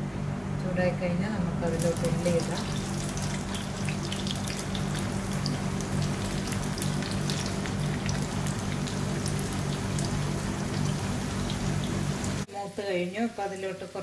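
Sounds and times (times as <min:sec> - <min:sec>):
shallots sizzling in oil: 0:01.7 - 0:14.0.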